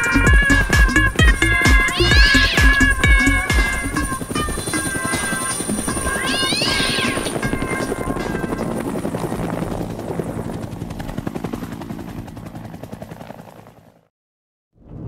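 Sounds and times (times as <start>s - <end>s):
helicopter rotor chop: 0.0s - 14.1s.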